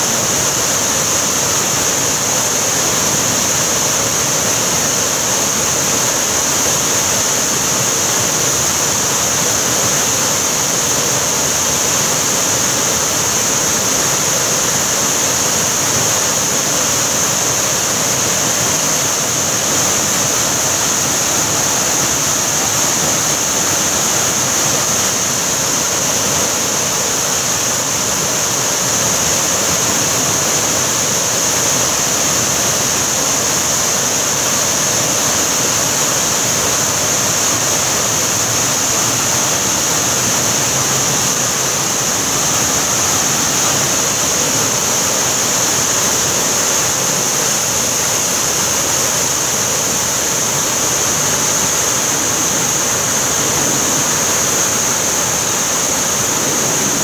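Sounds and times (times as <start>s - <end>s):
waterfall rushing into pool: 0.0s - 57.0s.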